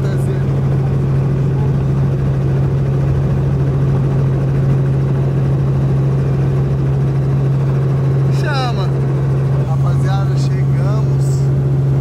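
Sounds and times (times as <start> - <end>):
helicopter droning from inside cabin: 0.0 - 12.0.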